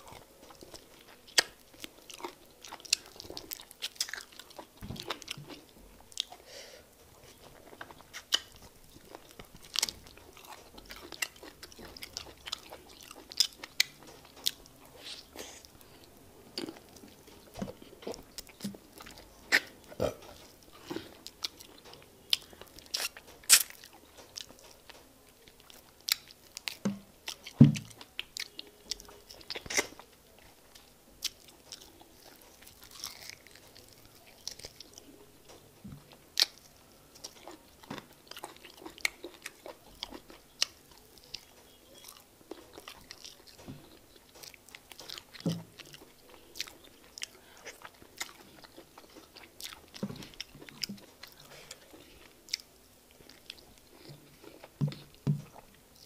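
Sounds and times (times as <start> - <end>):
chewing with wet mouth smacks: 0.0 - 6.4, 7.2 - 56.0.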